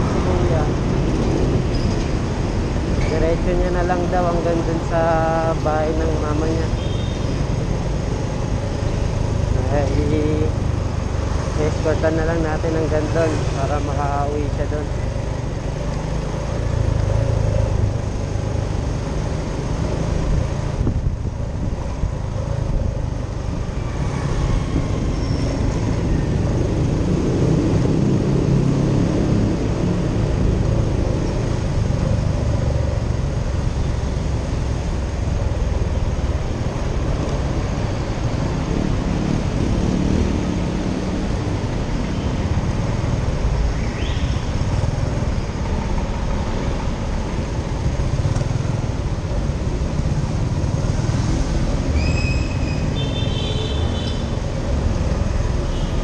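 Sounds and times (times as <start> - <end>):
city traffic: 0.0 - 56.0.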